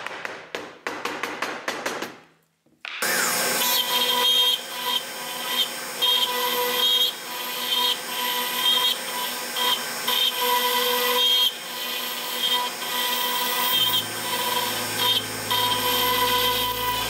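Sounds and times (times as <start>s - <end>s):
bit cutting through wood: 3.0s - 17.0s
router spindle whine: 3.0s - 17.0s.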